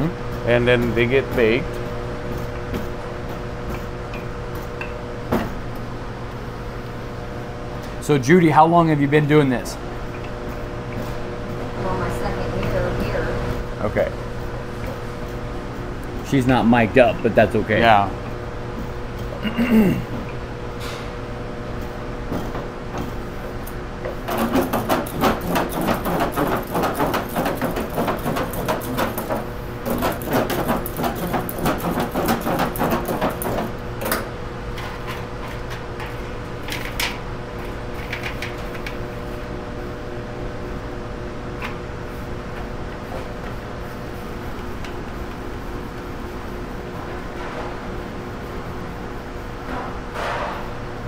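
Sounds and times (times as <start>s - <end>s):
kitchen equipment hum: 0.0s - 51.0s.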